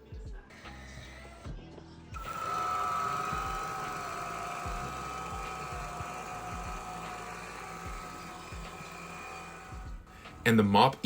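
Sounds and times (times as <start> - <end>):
robot vacuum motor whine: 0.5 - 11.0.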